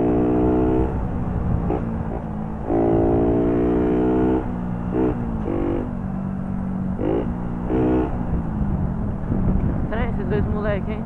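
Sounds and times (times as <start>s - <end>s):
moped engine revving: 0.0s - 11.0s
road and wind noise: 0.0s - 11.0s.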